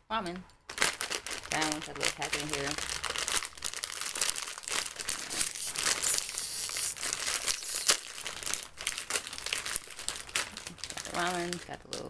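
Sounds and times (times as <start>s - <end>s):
plastic wrapper crinkling: 0.6s - 12.0s
sharp plastic crackle: 0.6s - 12.0s.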